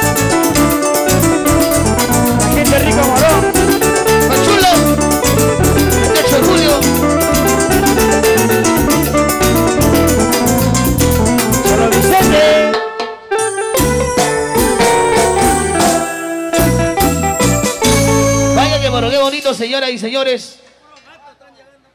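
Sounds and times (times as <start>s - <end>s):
live band playing dance music: 0.0s - 19.7s.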